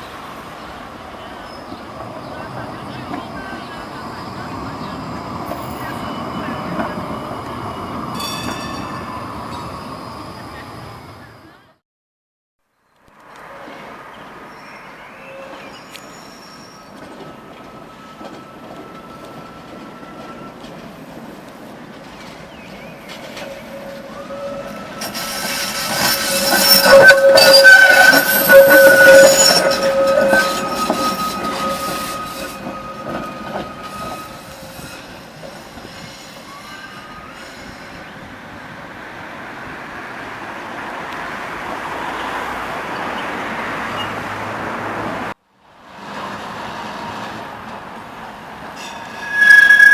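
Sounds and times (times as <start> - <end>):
tram wheels squealing on rails: 0.0 - 11.8, 13.4 - 40.2, 41.8 - 45.1, 46.1 - 49.9.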